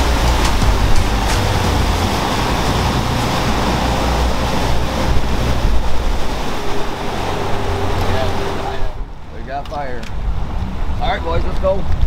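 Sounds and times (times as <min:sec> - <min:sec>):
boat engine rumble: 0:00.0 - 0:12.0
churning water of wake: 0:00.0 - 0:12.0.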